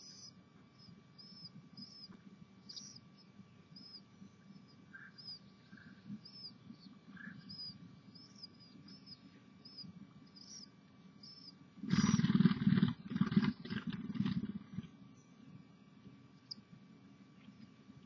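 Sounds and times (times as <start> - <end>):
bird chirping: 0.0 - 16.7.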